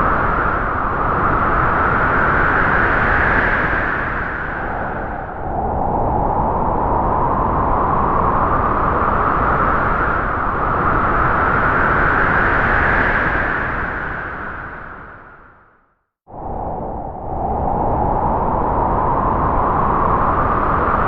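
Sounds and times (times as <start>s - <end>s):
wind howling through trees: 0.0s - 21.0s.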